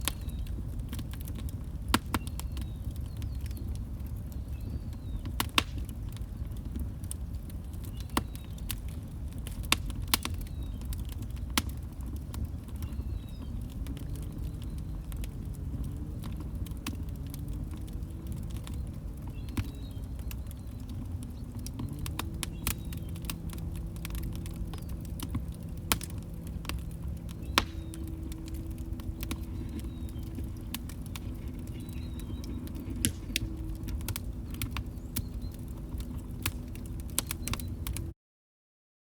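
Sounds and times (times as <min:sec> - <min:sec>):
log fire crackling: 0:00.0 - 0:38.1
low fire rumble: 0:00.0 - 0:38.1.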